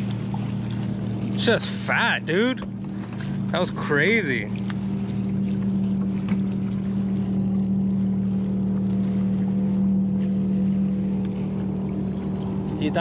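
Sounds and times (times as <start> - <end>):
electric trolling motor humming: 0.0 - 13.0.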